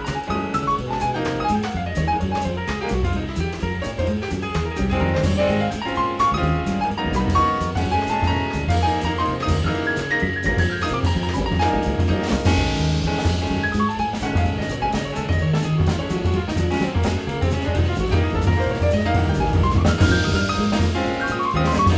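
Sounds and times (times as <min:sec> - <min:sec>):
jazz combo playing: 0:00.0 - 0:21.9
piano line: 0:00.0 - 0:21.9.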